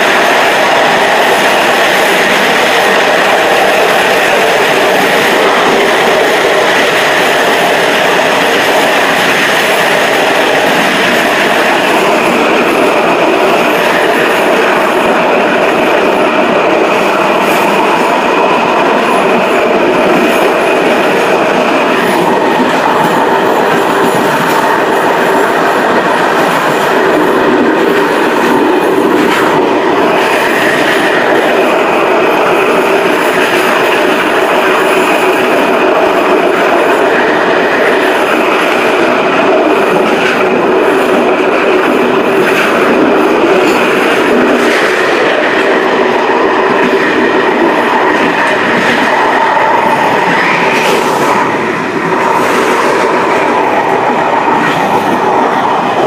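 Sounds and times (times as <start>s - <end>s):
train wheels rolling on track: 0.0s - 56.0s.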